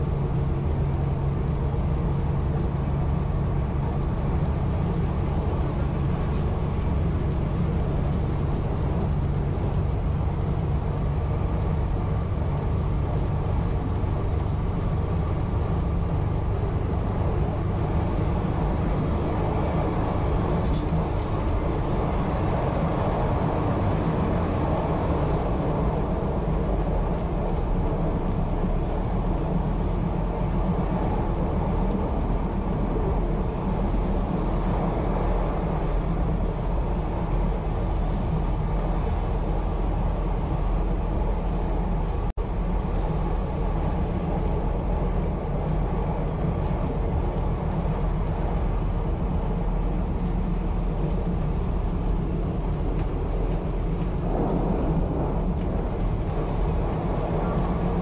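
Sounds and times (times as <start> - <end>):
railmotor engine running: 0.0 - 58.0
wheels rumbling on rail: 0.0 - 58.0.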